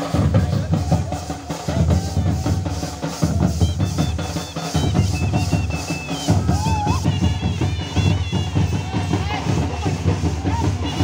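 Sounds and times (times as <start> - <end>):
drum-heavy music: 0.0 - 11.0.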